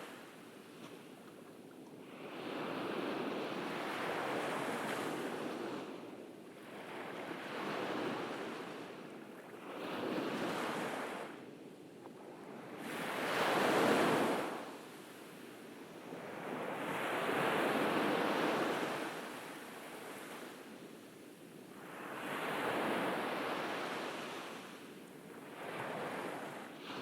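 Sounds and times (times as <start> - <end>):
ocean waves breaking on beach: 2.0 - 11.4, 12.6 - 15.2, 16.0 - 27.0.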